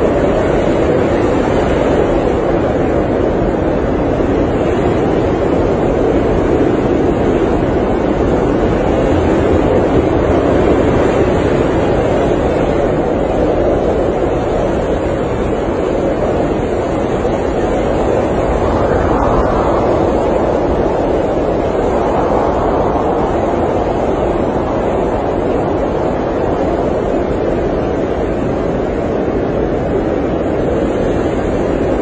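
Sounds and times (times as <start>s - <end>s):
blizzard wind rushing: 0.0s - 32.0s.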